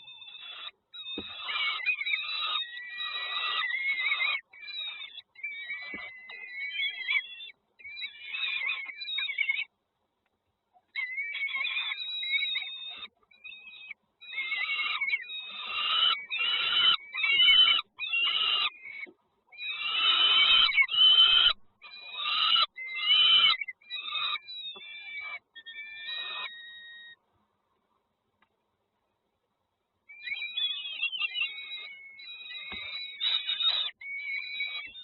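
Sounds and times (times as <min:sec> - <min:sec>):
nestling birds begging calls: 0:00.0 - 0:09.7, 0:10.9 - 0:27.2, 0:30.1 - 0:35.0.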